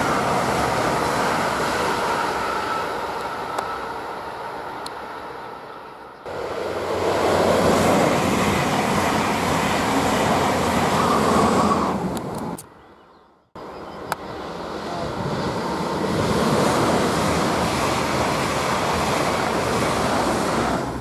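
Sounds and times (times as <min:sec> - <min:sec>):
high-speed train rushing past: 0:00.0 - 0:12.6, 0:13.6 - 0:21.0
passenger train rolling past: 0:00.0 - 0:12.6, 0:13.6 - 0:21.0.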